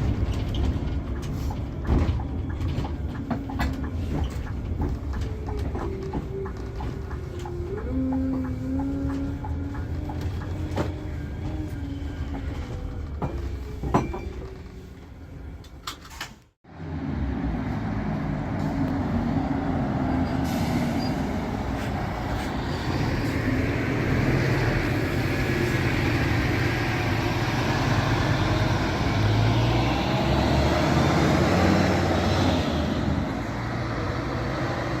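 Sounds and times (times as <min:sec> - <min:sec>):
diesel coach engine running: 0:00.0 - 0:14.0, 0:16.7 - 0:35.0.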